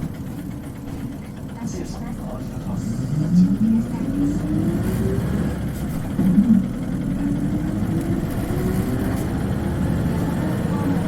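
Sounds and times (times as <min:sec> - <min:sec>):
bus engine accelerating with whine: 0:00.0 - 0:11.0.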